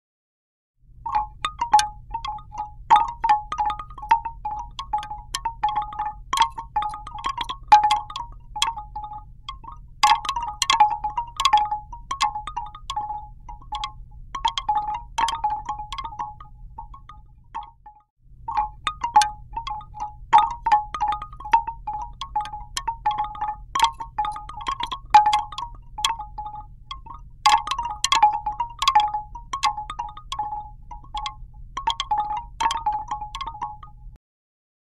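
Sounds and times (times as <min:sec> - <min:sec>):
bamboo wind chime knocking: 0:01.0 - 0:34.2.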